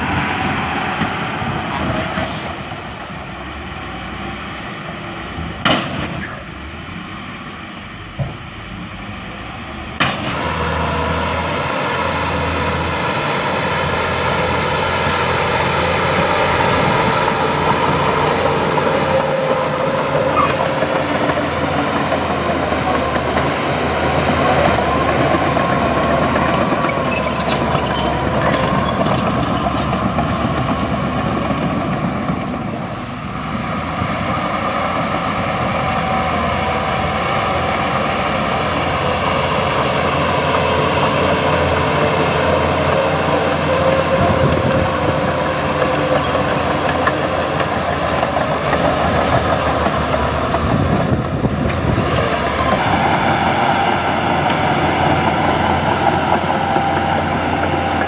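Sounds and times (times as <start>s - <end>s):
diesel engine of heavy machinery: 0.0s - 58.0s.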